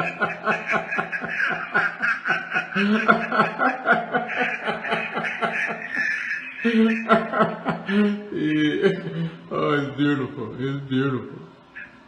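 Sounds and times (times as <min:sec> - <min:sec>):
man laughing: 0:00.0 - 0:11.2.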